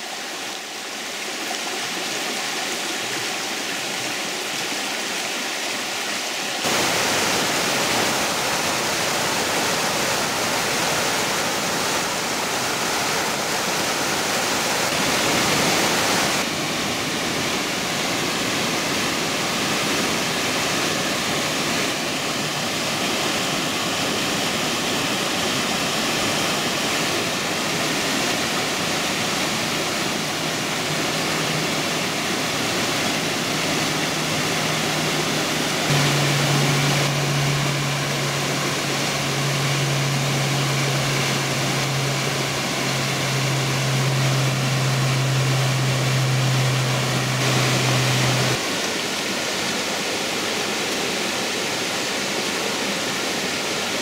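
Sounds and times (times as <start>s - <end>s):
creek water rippling over rocks: 0.0s - 54.0s
small waterfall rushing: 0.0s - 54.0s.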